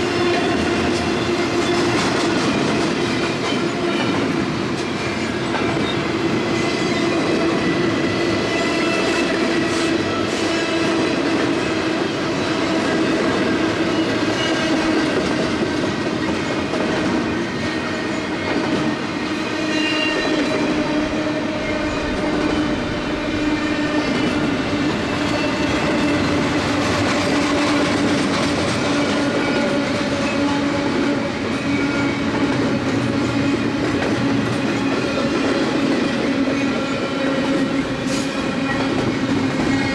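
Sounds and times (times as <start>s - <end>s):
freight train rumble and clatter: 0.0s - 39.9s.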